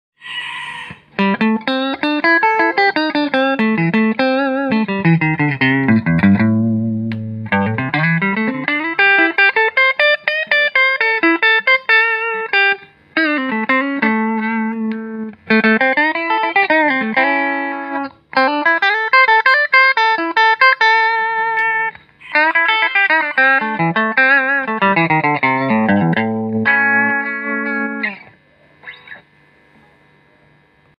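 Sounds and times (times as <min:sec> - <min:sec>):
clean electric guitar melody: 0:01.2 - 0:29.9.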